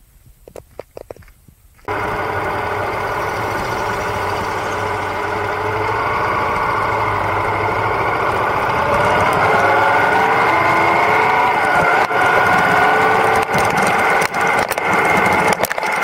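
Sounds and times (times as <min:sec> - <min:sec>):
motorcycle engine running: 0:01.9 - 0:16.0.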